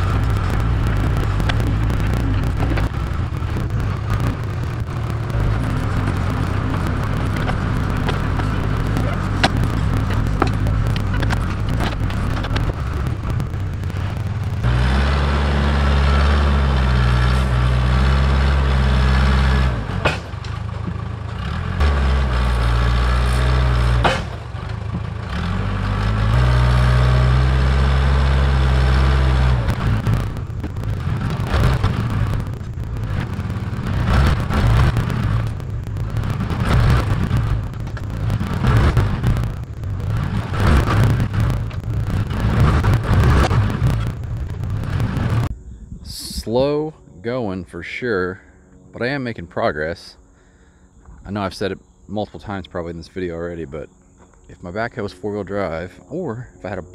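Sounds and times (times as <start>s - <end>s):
diesel engine of earthmoving equipment: 0.0s - 56.9s.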